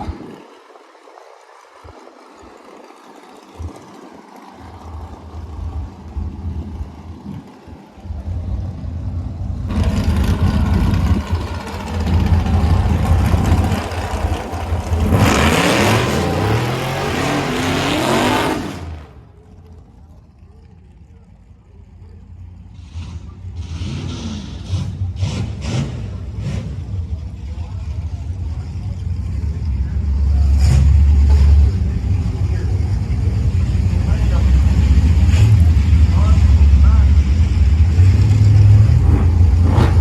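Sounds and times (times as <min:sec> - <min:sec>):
car engine accelerating: 0:01.7 - 0:40.0.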